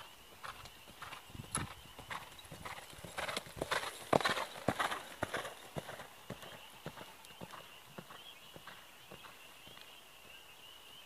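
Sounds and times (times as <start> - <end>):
horse hoofbeats on soft dirt: 0.0 - 10.4.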